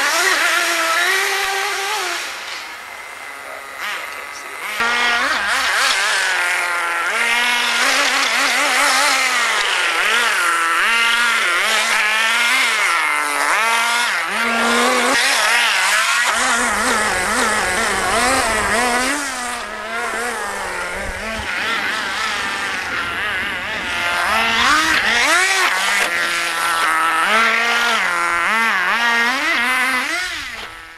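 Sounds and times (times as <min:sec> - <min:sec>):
small nitro engine revving: 0:00.0 - 0:30.9.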